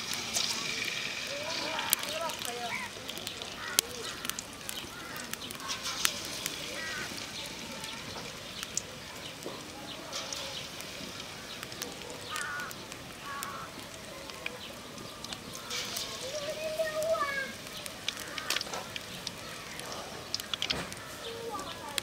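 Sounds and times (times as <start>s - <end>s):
hot oil sizzling and crackling: 0.0s - 22.0s.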